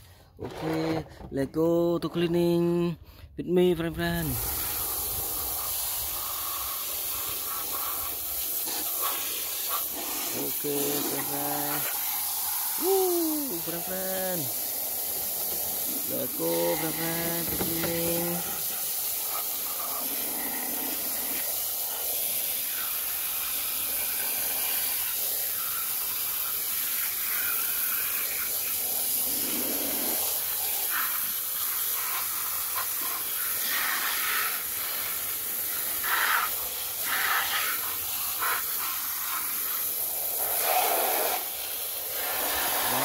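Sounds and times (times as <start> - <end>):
hose spray hissing: 3.8 - 43.0
water splashing on plastic toys: 4.4 - 43.0.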